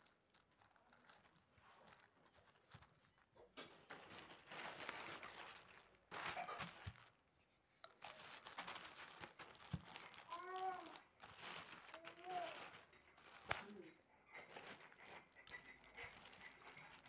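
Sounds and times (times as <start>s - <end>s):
plastic sheet crinkling: 0.0s - 17.0s.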